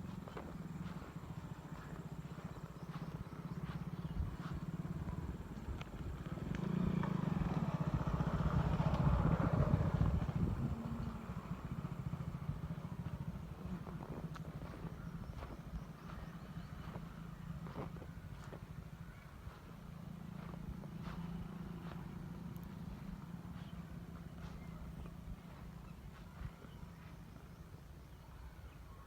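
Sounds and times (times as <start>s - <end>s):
small engine running: 0.0s - 28.6s.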